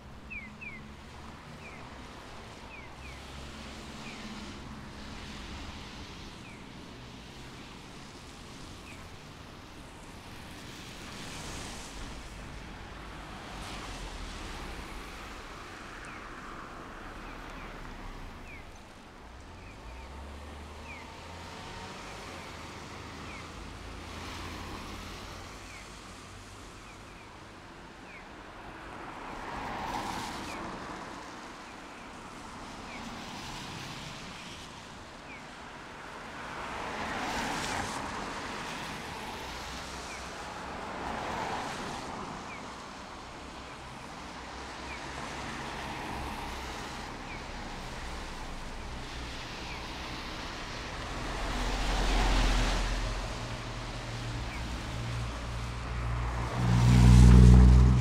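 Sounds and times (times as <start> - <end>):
cars passing: 0.0 - 26.7, 28.0 - 58.0.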